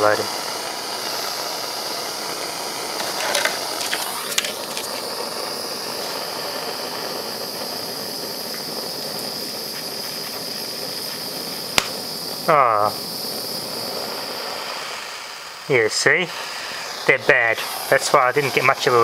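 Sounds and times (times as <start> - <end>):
propane torch hissing: 0.0 - 19.0.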